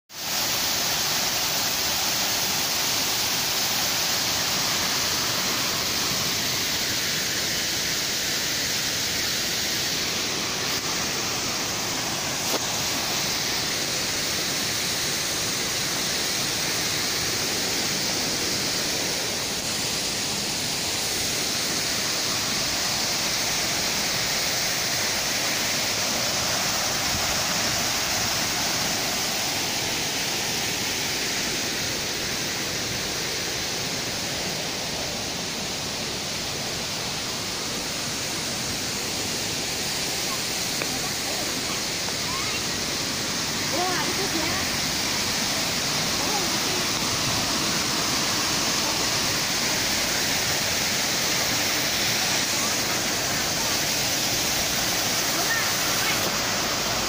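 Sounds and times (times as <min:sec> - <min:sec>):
waterfall splashing into pond: 0:00.1 - 0:57.0.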